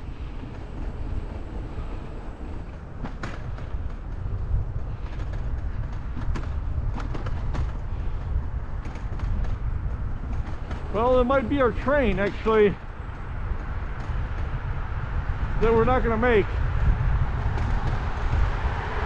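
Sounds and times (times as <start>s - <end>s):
bicycle rolling on pavement: 0.0s - 19.0s
wind: 0.0s - 19.0s.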